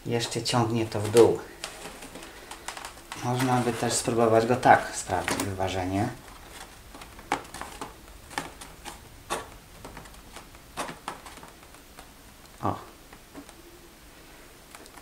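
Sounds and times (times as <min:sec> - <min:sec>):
hands handling foam model: 0:00.7 - 0:13.6.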